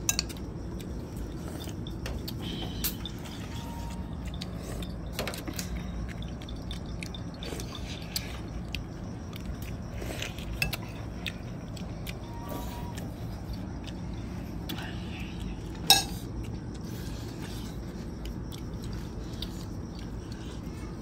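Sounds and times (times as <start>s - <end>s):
biting and chewing meat: 0.0s - 21.0s
steady low hum: 0.0s - 21.0s.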